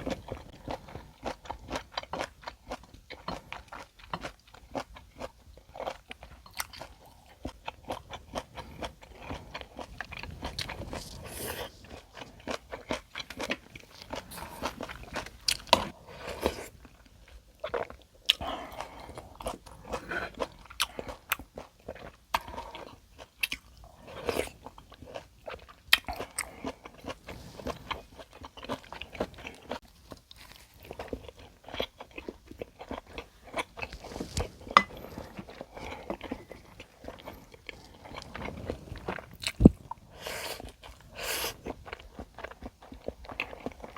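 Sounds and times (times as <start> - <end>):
person chewing and crunching: 0.0 - 43.9.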